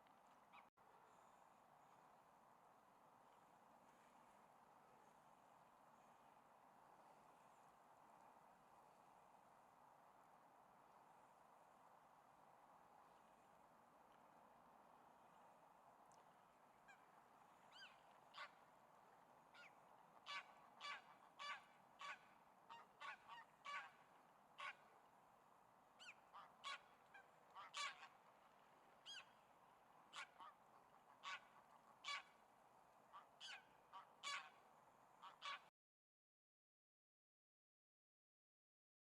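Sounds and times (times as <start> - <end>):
faint steady hiss: 0.0 - 35.3.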